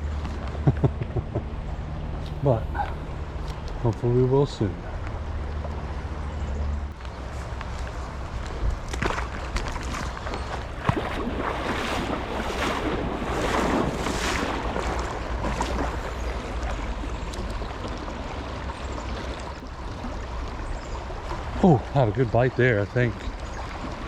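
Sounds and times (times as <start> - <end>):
wind rumbling on microphone: 0.0 - 22.1
creek water running: 0.0 - 24.0.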